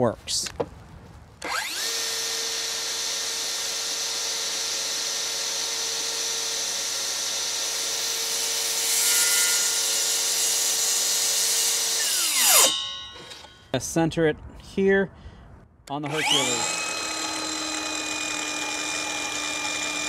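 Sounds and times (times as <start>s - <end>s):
circular saw cutting plywood: 1.4s - 13.6s, 16.0s - 20.0s.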